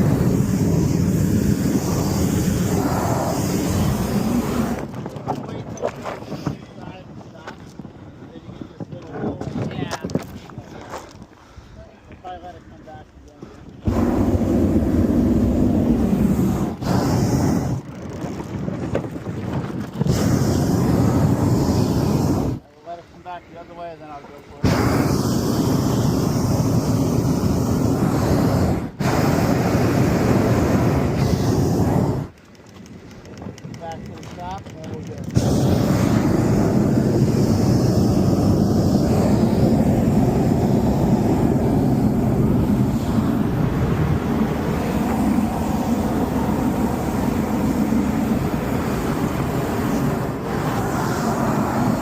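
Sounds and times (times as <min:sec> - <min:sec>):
wind buffeting microphone: 0:00.0 - 0:22.6, 0:24.6 - 0:52.0.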